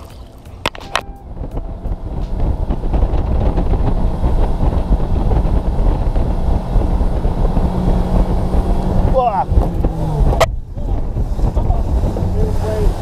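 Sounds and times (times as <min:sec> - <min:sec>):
boat engine rumbling: 0:00.0 - 0:13.0
wind on microphone: 0:00.0 - 0:13.0.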